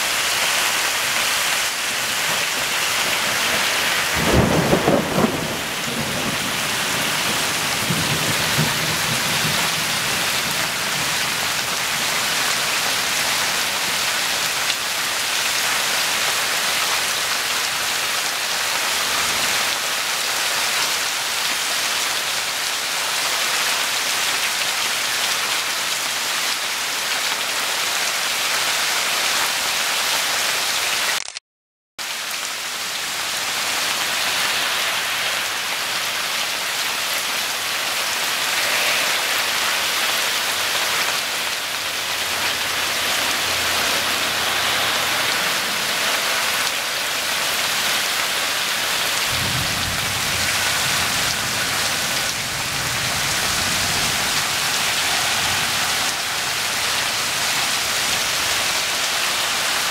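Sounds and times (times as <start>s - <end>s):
heavy rain pouring: 0.0s - 31.4s, 32.0s - 59.9s.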